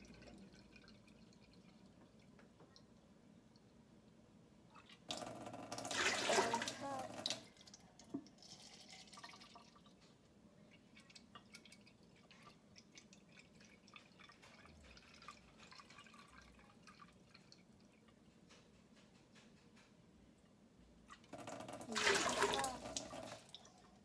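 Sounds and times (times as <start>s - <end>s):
water drips: 0.0s - 18.8s, 21.0s - 24.0s.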